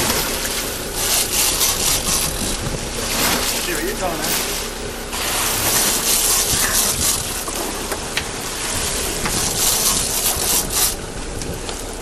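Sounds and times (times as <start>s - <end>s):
wind buffeting microphone: 0.0s - 5.1s, 6.0s - 12.0s
sea water rushing against boat: 0.0s - 12.0s.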